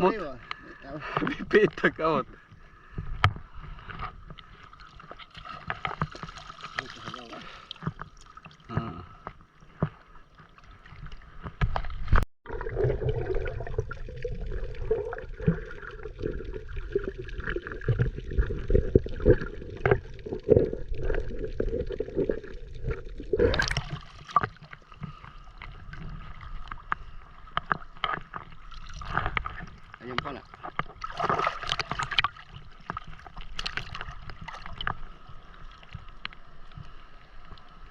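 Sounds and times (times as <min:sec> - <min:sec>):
water sloshing and splashing: 0:02.4 - 0:37.9.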